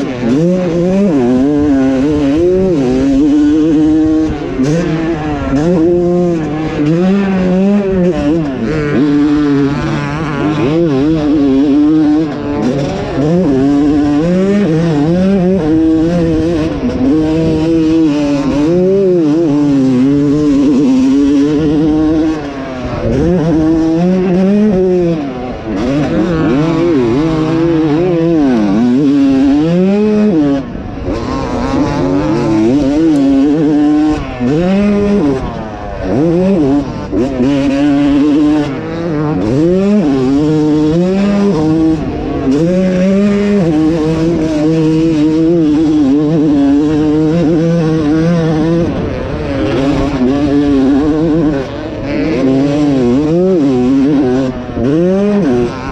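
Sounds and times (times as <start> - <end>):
two-stroke motocross engine revving: 0.0 - 55.9.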